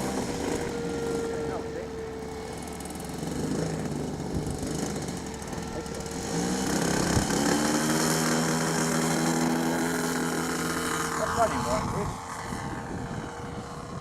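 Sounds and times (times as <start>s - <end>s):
model plane engine revving: 0.0s - 14.0s.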